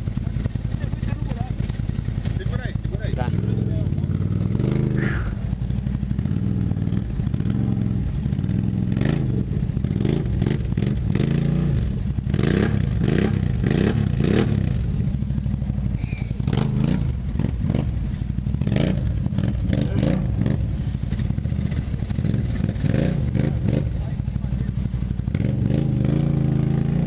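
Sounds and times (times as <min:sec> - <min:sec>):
atv engines idling: 0:00.0 - 0:27.0.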